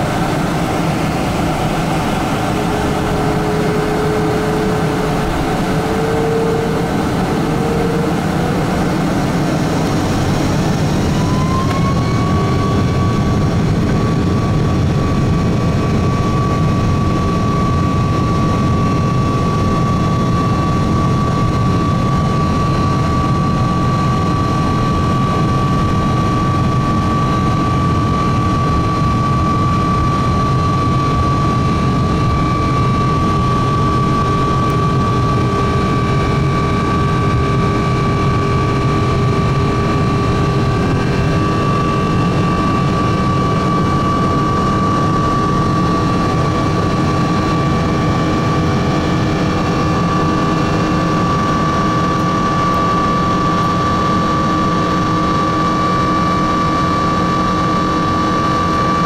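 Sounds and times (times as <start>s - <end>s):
jet engine high whine: 0.0s - 59.0s.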